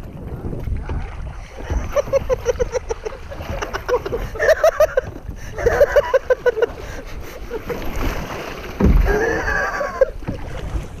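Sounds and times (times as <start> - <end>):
kayak paddles splashing in water: 0.0 - 11.0.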